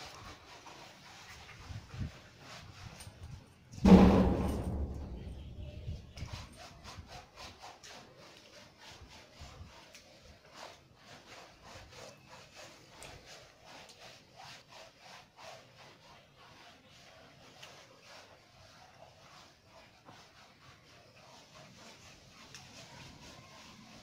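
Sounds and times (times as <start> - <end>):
brush scrubbing wet fur: 0.0 - 24.0.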